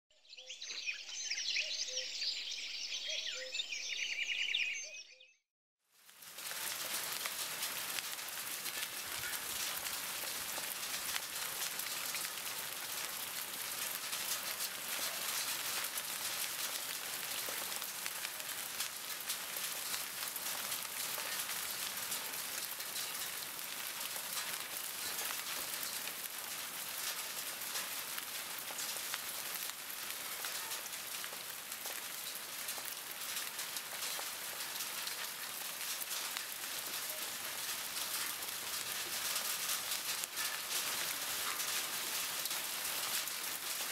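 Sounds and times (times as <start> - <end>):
hailstones pattering on rock: 6.0 - 43.9.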